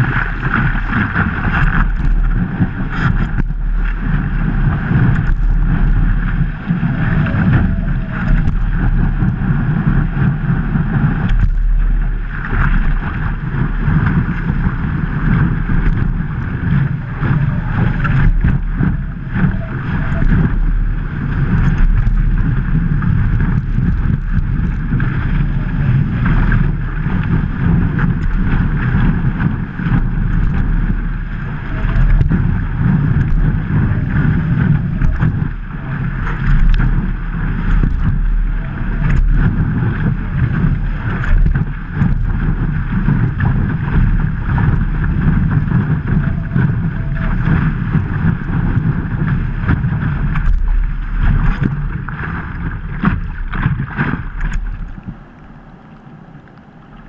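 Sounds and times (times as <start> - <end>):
water rushing along board: 0.0 - 57.0
wind buffeting microphone: 0.0 - 57.0.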